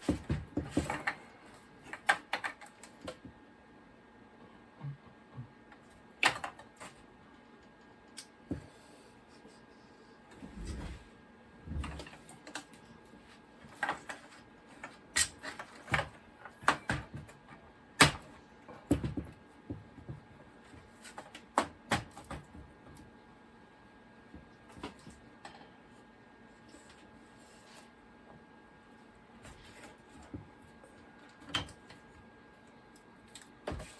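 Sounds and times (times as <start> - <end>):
faint steady hum: 0.0 - 33.9.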